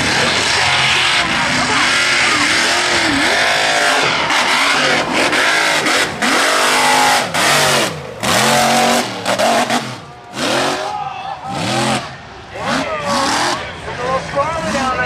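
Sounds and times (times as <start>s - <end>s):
dense noisy rush: 0.0s - 15.0s
truck engine revving: 0.0s - 15.0s.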